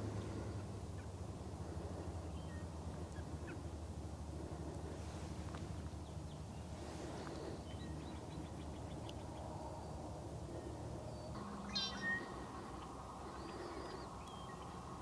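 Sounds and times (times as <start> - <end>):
faint steady hum: 0.0 - 15.0
steady low rumble: 0.0 - 15.0
wild bird calls: 0.0 - 15.0.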